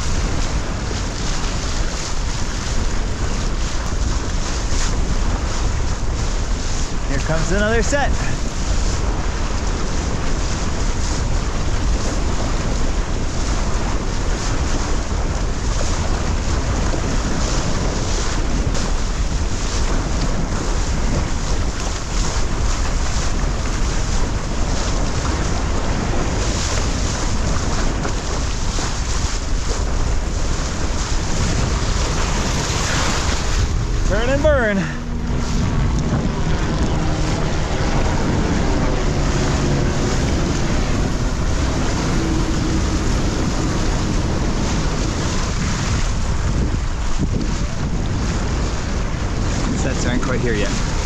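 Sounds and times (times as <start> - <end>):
water rushing under board: 0.0 - 51.0
wind buffeting microphone: 0.0 - 51.0.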